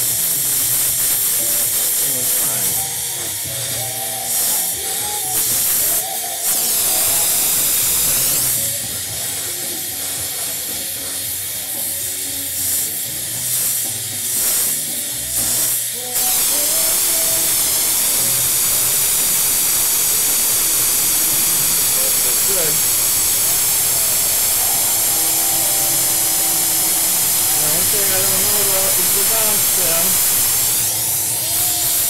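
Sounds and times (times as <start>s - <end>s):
torch hissing: 0.0s - 32.0s.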